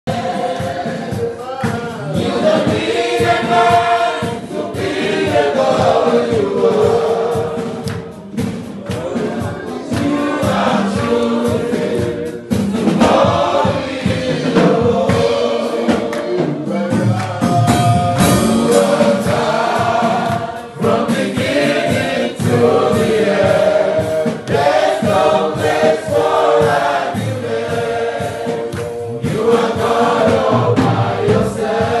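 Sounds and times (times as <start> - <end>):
congregation singing: 0.1 - 32.0.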